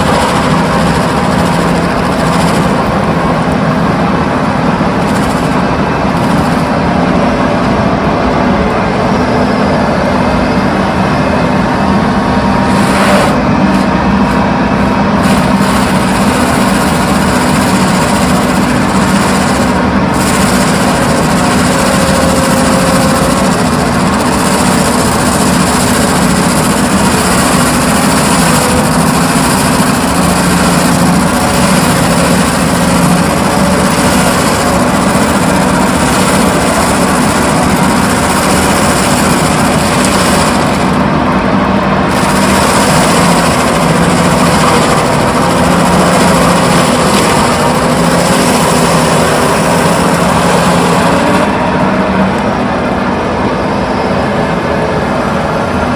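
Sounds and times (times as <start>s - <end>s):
mulcher machine din: 0.0s - 55.9s.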